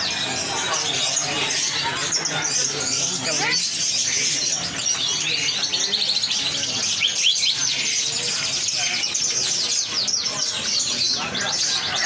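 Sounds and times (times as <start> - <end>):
people murmuring: 0.0 - 12.0
songbirds chirping and whistling: 0.0 - 12.0.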